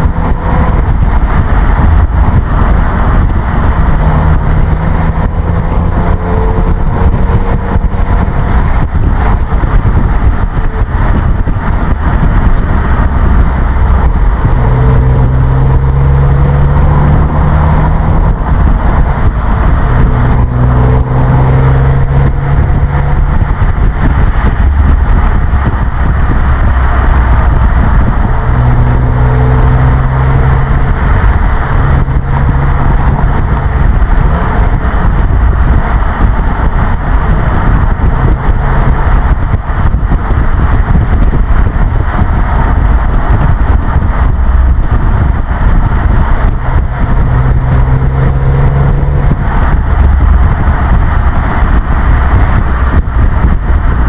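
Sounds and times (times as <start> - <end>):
car exhaust drone: 0.0 - 54.0
road and wind rush: 0.0 - 54.0.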